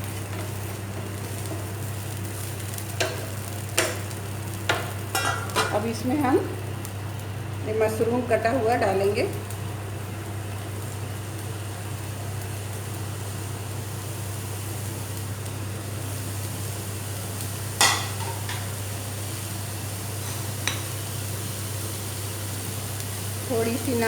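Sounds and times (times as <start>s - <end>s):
vegetables sizzling in a frying pan: 0.0s - 24.0s.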